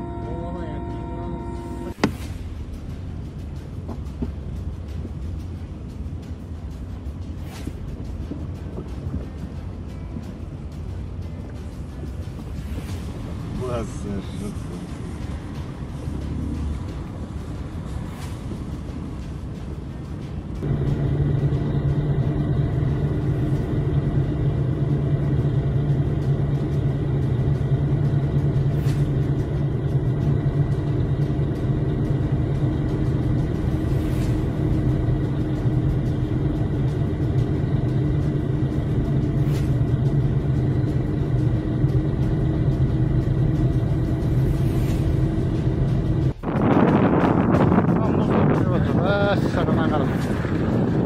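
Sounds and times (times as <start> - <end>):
vehicle engine droning: 0.0 - 51.0.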